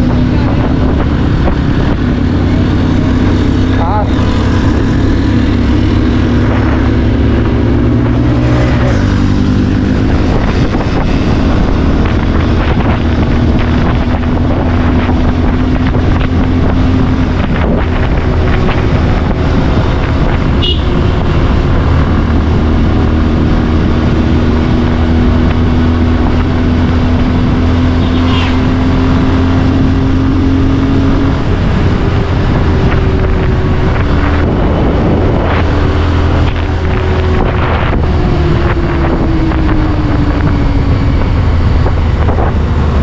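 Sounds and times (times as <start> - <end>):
motorcycle engine running: 0.0 - 43.0
wind on microphone: 0.0 - 43.0.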